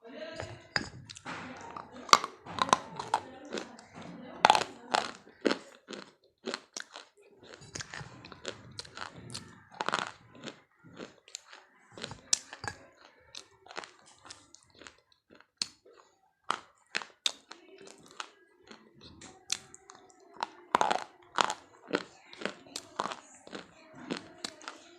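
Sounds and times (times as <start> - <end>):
crunchy food being chewed: 0.4 - 24.9.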